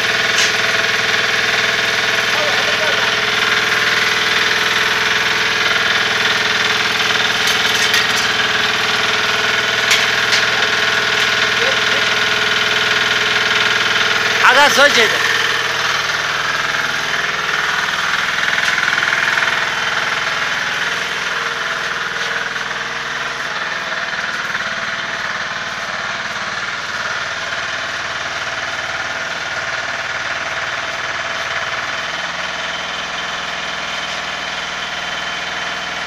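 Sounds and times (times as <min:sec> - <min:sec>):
small engine running steadily: 0:00.0 - 0:36.0.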